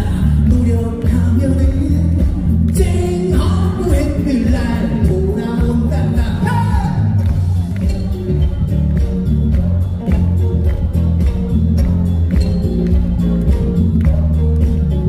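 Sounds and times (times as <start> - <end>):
loud music over sound system: 0.0 - 15.0.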